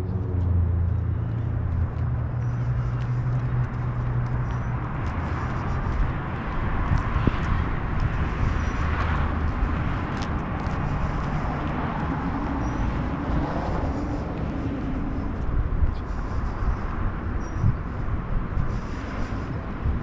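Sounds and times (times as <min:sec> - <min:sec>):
tyre and road noise: 0:00.0 - 0:20.0
vehicle engine hum: 0:00.0 - 0:20.0.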